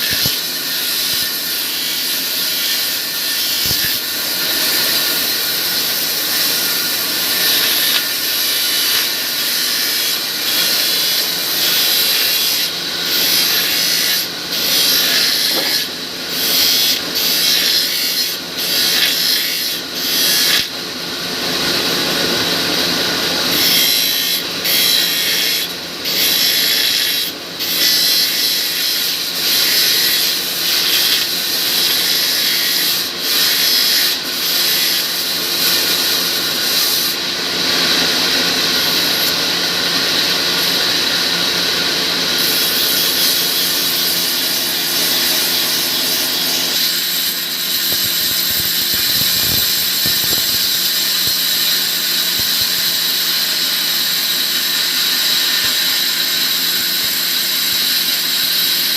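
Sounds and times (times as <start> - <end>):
rasping sawing noise: 0.0 - 20.7, 21.6 - 58.6
sawmill machinery hum: 0.0 - 58.9.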